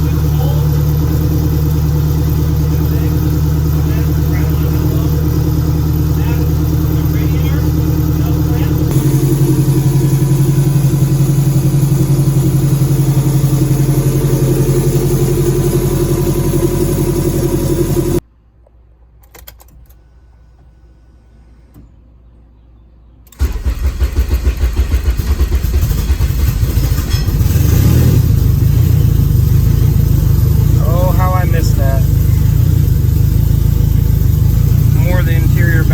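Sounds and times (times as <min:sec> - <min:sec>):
car engine running: 0:00.0 - 0:18.2, 0:23.4 - 0:35.9.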